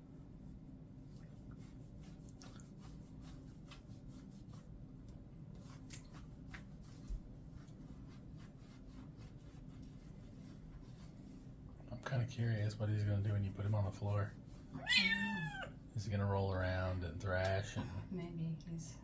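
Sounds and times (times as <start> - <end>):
low steady hum: 0.0 - 19.0
hands rubbing wet fur: 0.2 - 11.8, 12.5 - 17.7.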